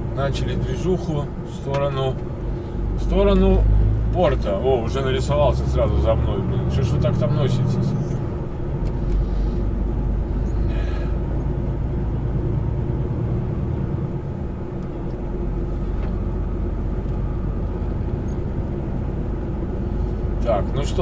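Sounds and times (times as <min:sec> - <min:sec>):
truck engine drone and road rumble: 0:00.0 - 0:21.0.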